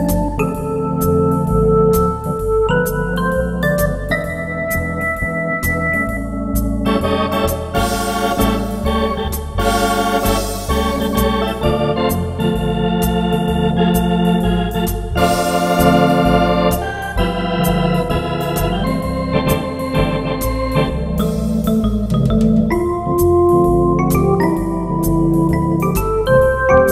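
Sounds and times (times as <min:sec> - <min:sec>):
electronic organ chords: 0:00.0 - 0:26.9
pedal bass line: 0:00.0 - 0:26.9
high ticking beat: 0:03.8 - 0:26.9.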